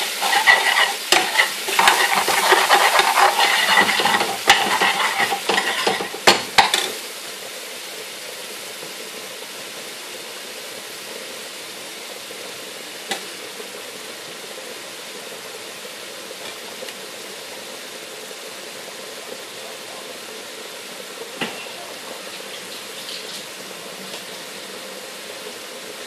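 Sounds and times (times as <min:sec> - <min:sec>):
sauce sizzling in a pan: 0:00.0 - 0:26.0.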